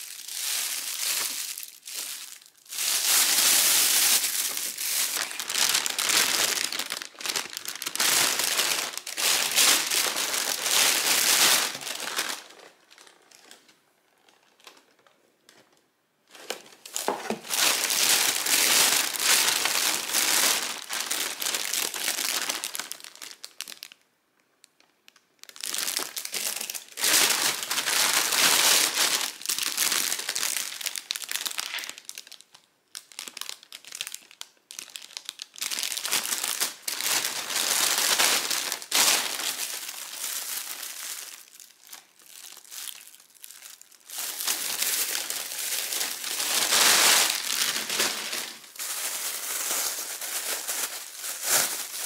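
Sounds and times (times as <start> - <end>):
plastic bags crinkling: 0.0 - 24.0, 24.7 - 52.0.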